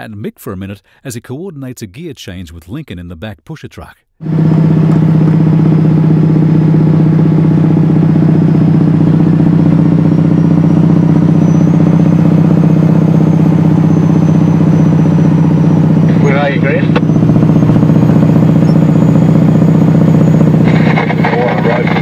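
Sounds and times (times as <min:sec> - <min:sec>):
diesel truck engine droning: 0:04.2 - 0:22.0.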